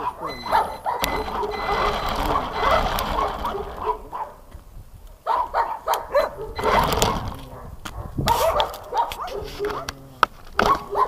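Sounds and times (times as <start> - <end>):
dog yelping: 0.0 - 4.4, 5.3 - 10.0, 10.6 - 11.0.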